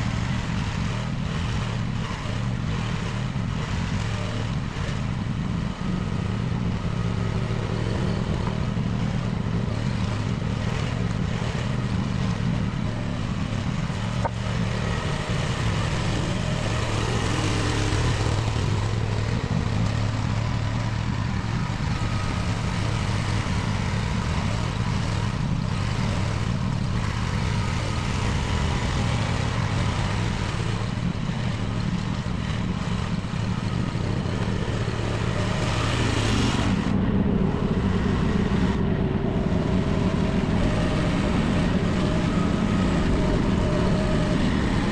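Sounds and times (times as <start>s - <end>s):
mini excavator engine running: 0.0s - 44.9s.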